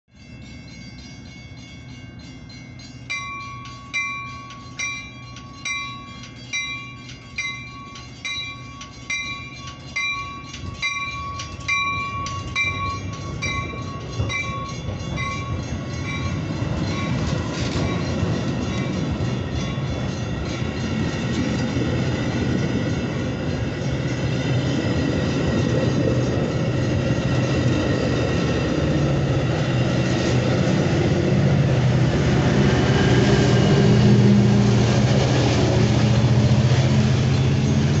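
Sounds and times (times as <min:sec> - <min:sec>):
railroad crossing bell ringing: 0:00.1 - 0:38.0
train cars rumbling on rails: 0:00.2 - 0:38.0.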